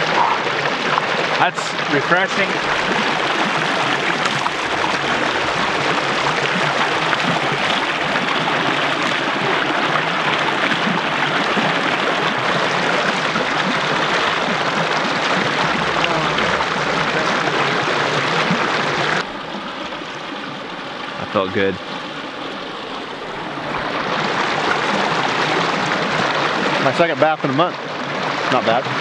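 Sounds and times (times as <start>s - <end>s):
stream water rushing over rocks: 0.0s - 29.0s.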